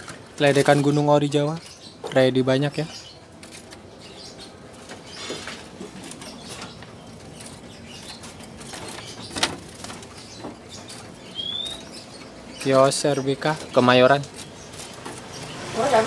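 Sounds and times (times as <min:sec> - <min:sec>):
birds fluttering against cage bars: 0:00.0 - 0:01.9, 0:02.9 - 0:16.0
bird chirps and calls: 0:00.4 - 0:16.0.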